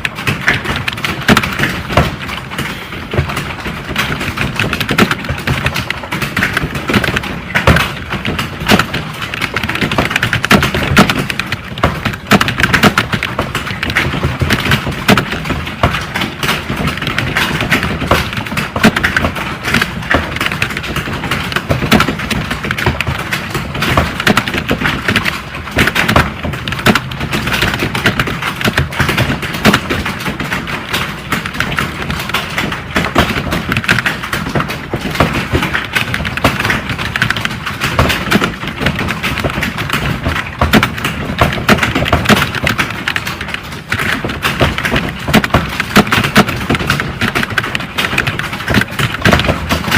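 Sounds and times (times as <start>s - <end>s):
fast typing on keyboard: 0.0s - 49.9s.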